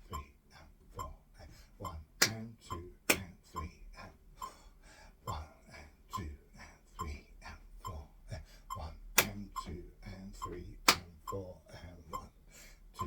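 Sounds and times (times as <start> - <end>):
throat noises: 0.0 - 13.0.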